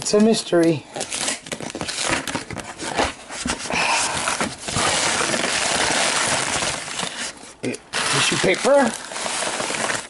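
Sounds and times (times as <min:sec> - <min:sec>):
tissue paper crinkling and rustling: 0:01.0 - 0:10.0.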